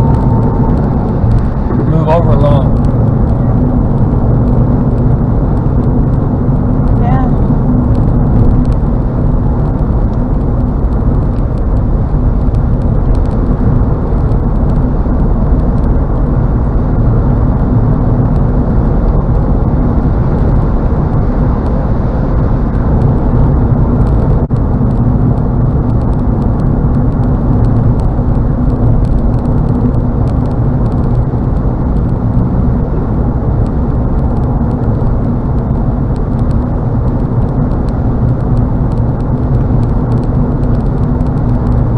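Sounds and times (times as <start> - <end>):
low car drone: 0.0 - 41.9
tyre and wind road noise: 0.0 - 41.9.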